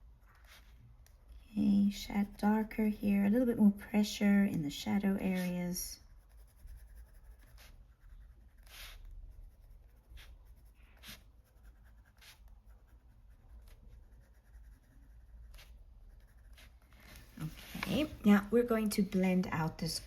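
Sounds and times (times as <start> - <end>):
coloured pencil scratching on paper: 0.0 - 20.0.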